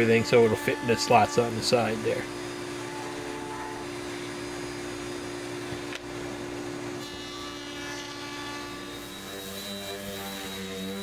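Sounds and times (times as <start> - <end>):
router bit cutting wood: 0.0 - 6.0, 7.0 - 11.0
router motor hum: 0.0 - 11.0.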